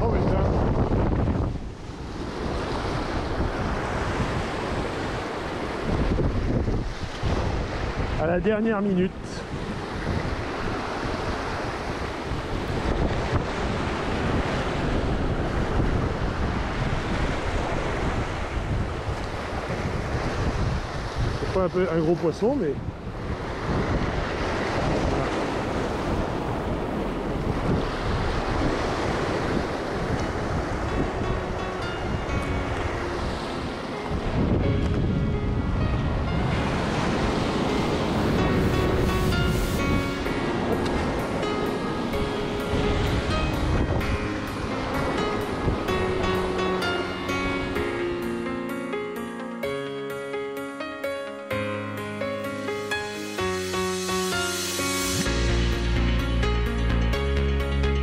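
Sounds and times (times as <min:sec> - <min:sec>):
wind buffeting microphone: 0:00.0 - 0:48.4.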